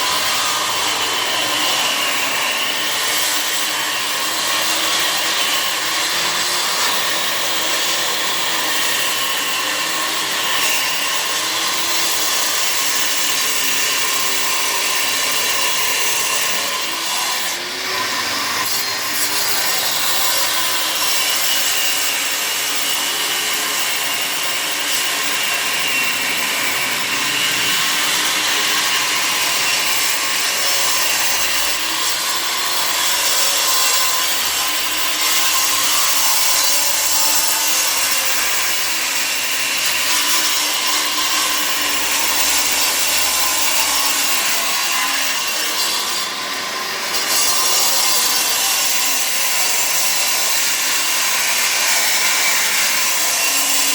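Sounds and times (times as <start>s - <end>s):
power tool grating: 0.0s - 53.9s.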